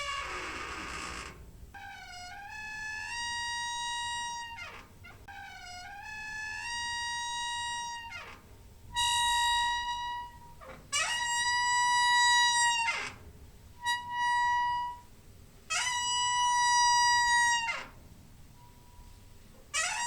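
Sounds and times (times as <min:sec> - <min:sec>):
door hinge squeaking: 0:00.0 - 0:15.1, 0:15.7 - 0:18.0, 0:18.6 - 0:20.0.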